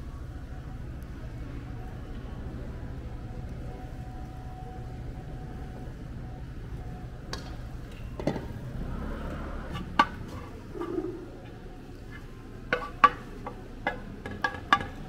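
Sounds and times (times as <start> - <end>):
low background rumble: 0.0 - 12.8.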